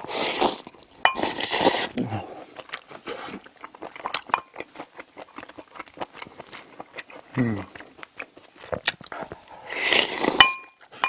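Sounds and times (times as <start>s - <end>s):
wet chewing mouth noises: 0.0s - 10.4s.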